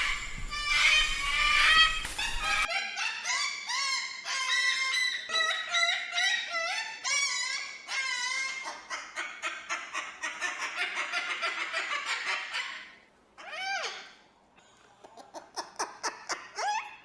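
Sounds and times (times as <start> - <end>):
cockatoo calling: 0.0 - 14.2.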